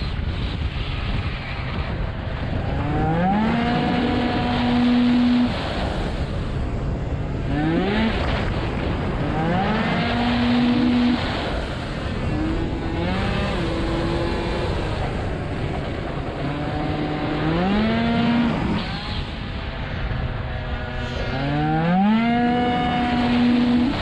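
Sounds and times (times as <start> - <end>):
wind rush: 0.0 - 24.0
two-stroke scooter engine revving: 2.4 - 6.6, 7.2 - 24.0.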